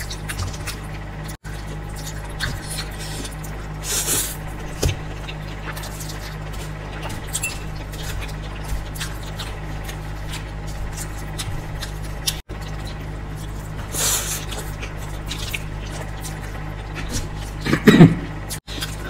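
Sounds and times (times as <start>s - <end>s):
noodles slurped and chewed: 0.0s - 19.0s
steady low hum: 0.0s - 19.0s.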